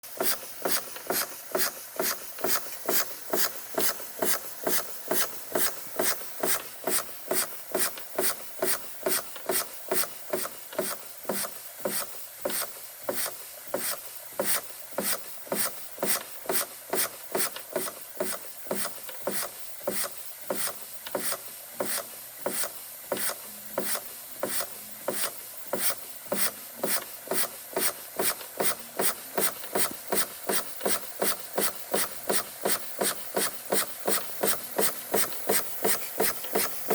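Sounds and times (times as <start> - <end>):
toy steam engine puffing: 0.0 - 36.9.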